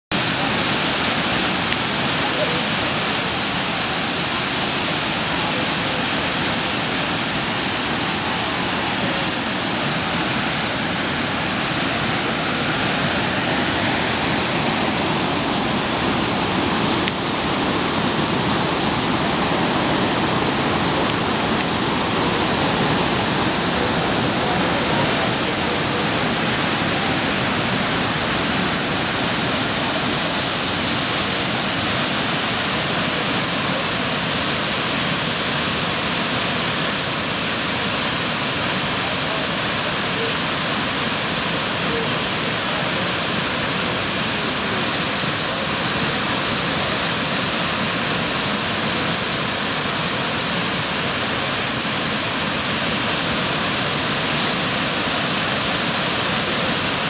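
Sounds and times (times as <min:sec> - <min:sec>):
waterfall rushing: 0:00.1 - 0:57.0.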